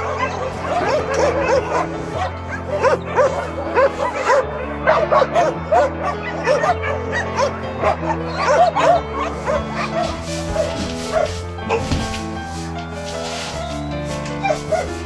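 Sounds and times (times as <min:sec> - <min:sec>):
background music with held chords: 0:00.0 - 0:15.0
dogs barking and yipping: 0:00.0 - 0:15.0.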